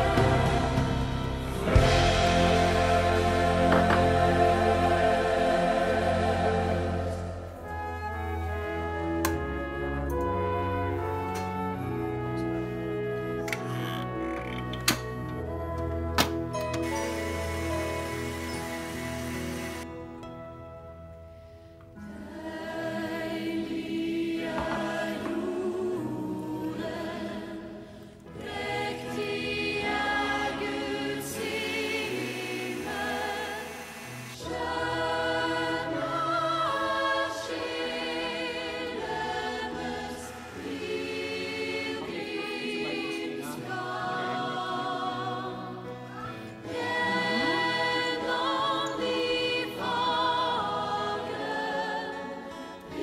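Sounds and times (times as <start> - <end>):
choir singing: 0.0 - 13.6, 14.4 - 20.0, 22.0 - 53.0.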